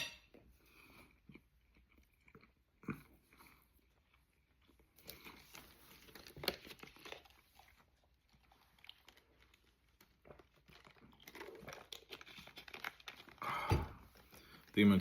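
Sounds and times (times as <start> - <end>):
chewing food: 0.4 - 14.8.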